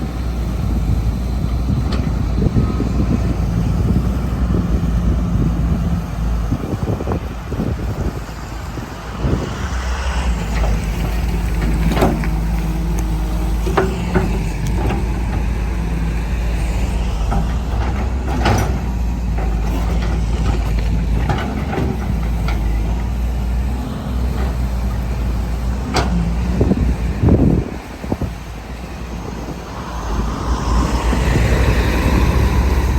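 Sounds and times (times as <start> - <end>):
excavator diesel engine: 0.0 - 32.9.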